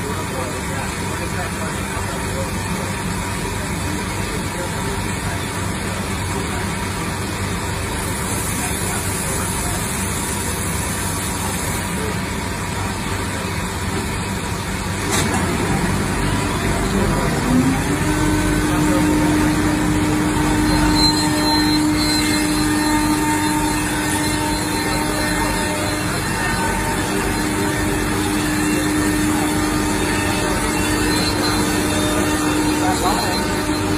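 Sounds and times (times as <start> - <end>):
cnc router running: 0.0 - 33.9.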